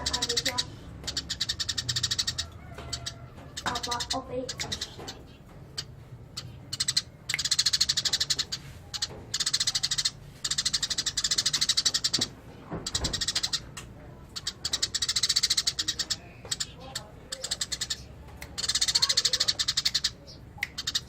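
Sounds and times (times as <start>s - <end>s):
sparrow chattering fast chirps: 0.0s - 21.0s.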